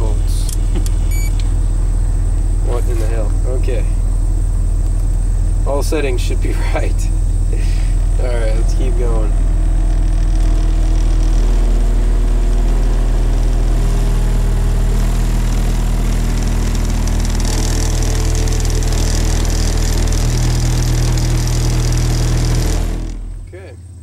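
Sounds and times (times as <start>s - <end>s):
low bass test tone: 0.0s - 24.0s.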